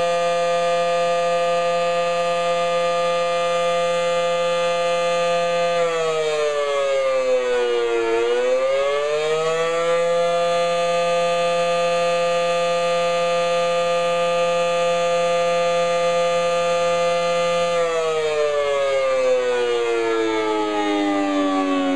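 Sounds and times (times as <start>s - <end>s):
outdoor warning siren: 0.0s - 21.9s.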